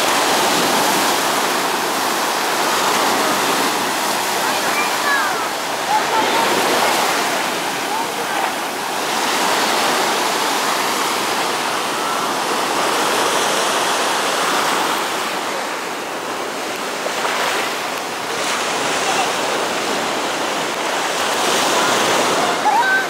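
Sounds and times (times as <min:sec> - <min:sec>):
sea surf breaking on rocks: 0:00.0 - 0:23.0.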